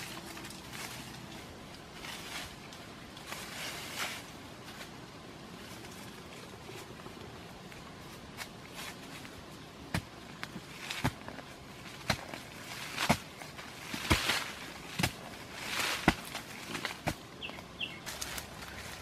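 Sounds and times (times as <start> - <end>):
stick scraping leaf litter: 0.0 - 7.0, 7.7 - 19.0.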